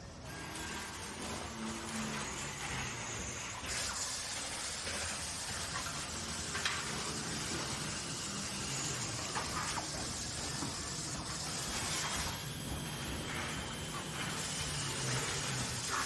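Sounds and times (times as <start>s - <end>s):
industrial machinery hiss and rumble: 0.0s - 16.0s.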